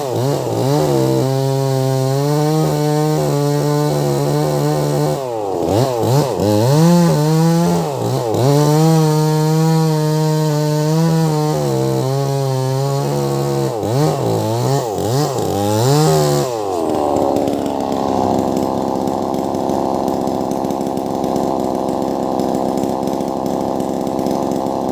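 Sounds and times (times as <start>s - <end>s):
chainsaw engine revving: 0.0s - 24.9s.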